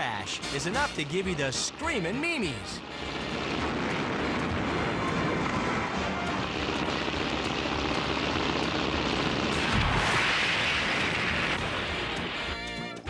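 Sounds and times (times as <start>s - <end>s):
propeller airplane engine running: 0.0s - 13.0s.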